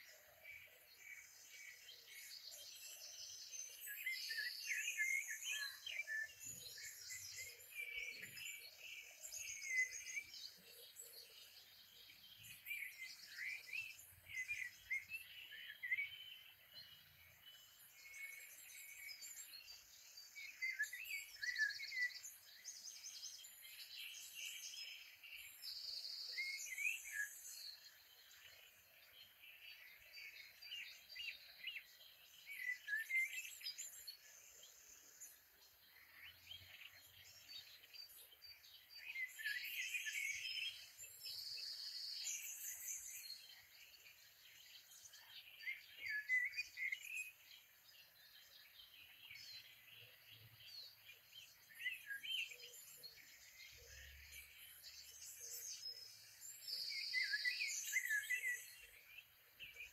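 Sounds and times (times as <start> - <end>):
birds chirping and singing: 0.0 - 59.9.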